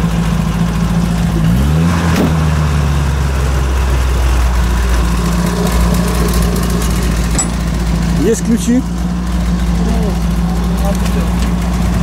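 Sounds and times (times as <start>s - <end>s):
engine running hard under load: 0.0s - 12.0s.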